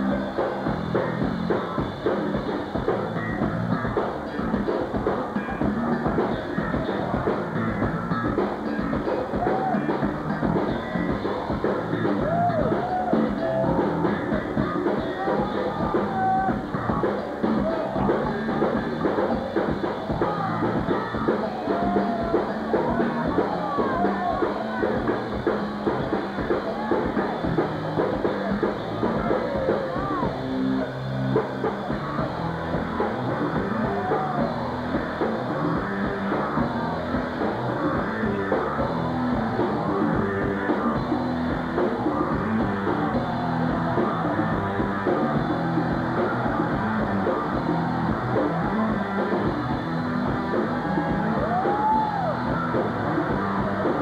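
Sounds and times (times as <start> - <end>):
funk rock band playing: 0.0 - 54.0.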